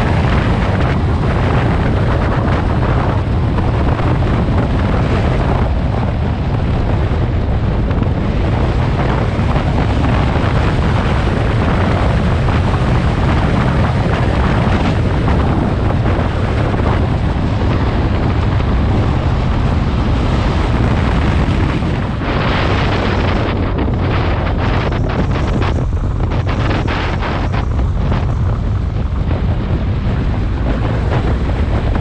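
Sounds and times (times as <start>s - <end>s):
motorcycle engine: 0.0s - 32.0s
road noise: 0.0s - 32.0s
wind buffeting microphone: 0.0s - 32.0s.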